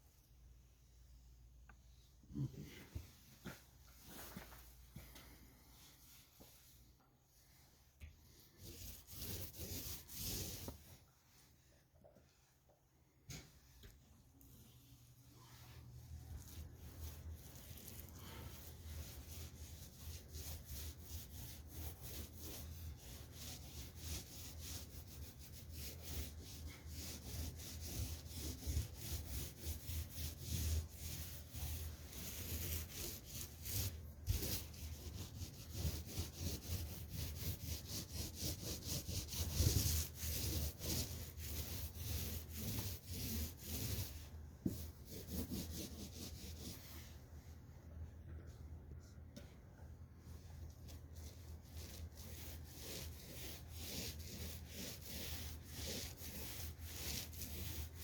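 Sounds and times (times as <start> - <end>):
paint roller rubbing on wall: 4.0 - 11.7, 14.4 - 47.2, 50.9 - 58.0.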